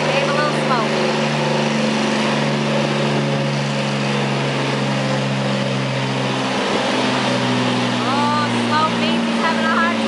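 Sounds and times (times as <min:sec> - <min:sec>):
tractor engine running under load: 0:00.0 - 0:10.0.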